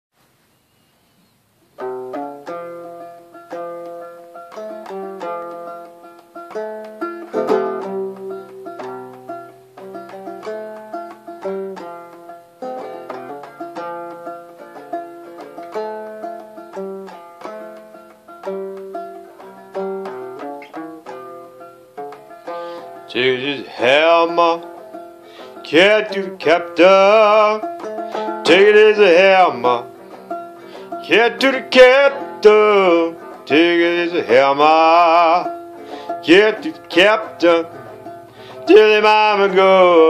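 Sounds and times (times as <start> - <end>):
banjo playing folk tune: 1.7 - 40.0.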